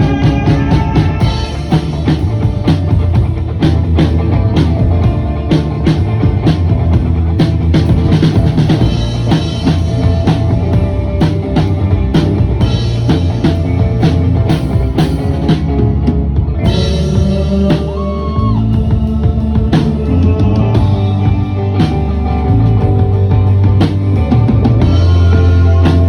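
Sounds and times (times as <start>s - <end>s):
drum kit beat: 0.0s - 26.0s
live rock band playing: 0.0s - 26.0s.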